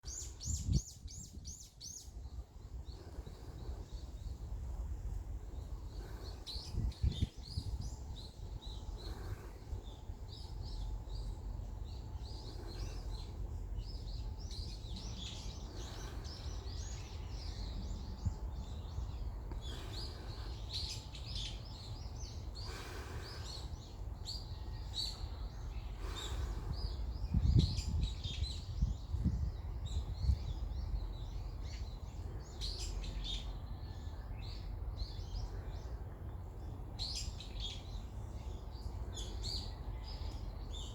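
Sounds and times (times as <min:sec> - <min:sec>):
small birds chirping: 0:00.0 - 0:40.9
wind rumbling on microphone: 0:00.0 - 0:40.9.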